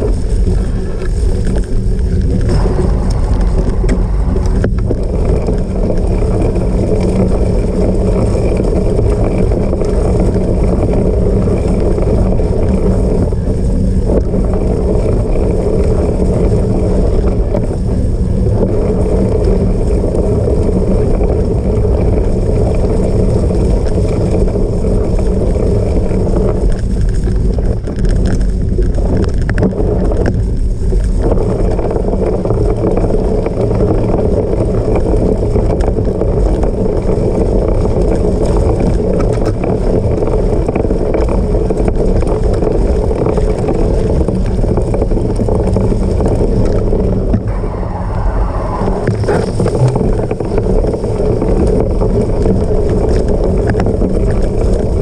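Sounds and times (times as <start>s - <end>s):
bike rumbling over rough ground: 0.0s - 55.0s
wind on microphone: 0.0s - 55.0s.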